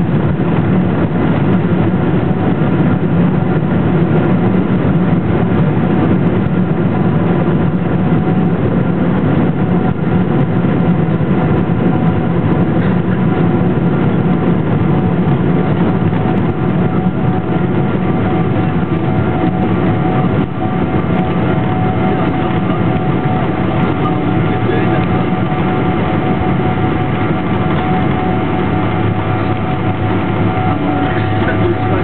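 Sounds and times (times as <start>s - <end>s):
jet engine hum: 0.0s - 32.0s
wheels rumbling on runway: 0.0s - 32.0s.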